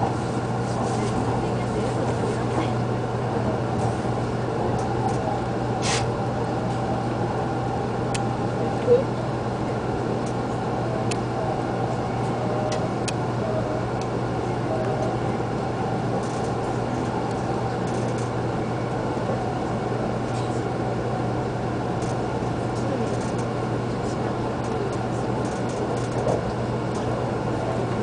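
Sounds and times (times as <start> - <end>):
train rumbling inside car: 0.0 - 28.0.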